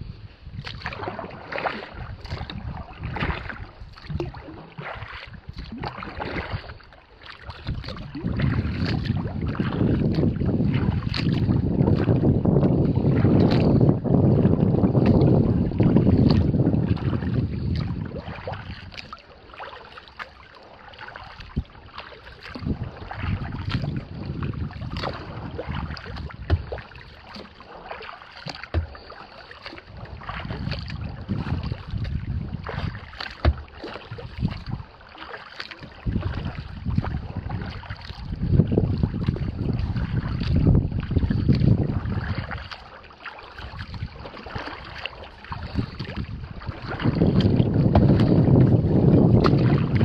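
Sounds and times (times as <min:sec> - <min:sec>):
wind buffeting microphone: 0:00.0 - 0:06.8, 0:07.4 - 0:19.2, 0:21.3 - 0:35.0, 0:35.8 - 0:50.0
water splashing against kayak hull: 0:00.0 - 0:50.0.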